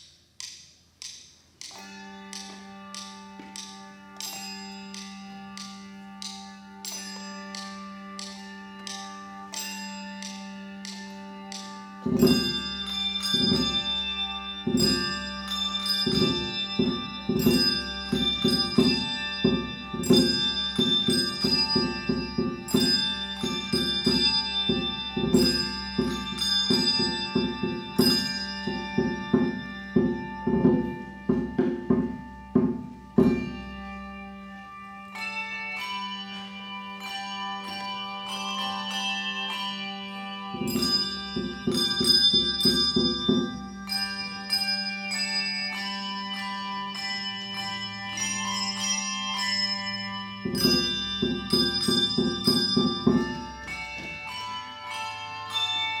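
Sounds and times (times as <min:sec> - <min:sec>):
handbell choir ringing: 0:01.6 - 0:56.0.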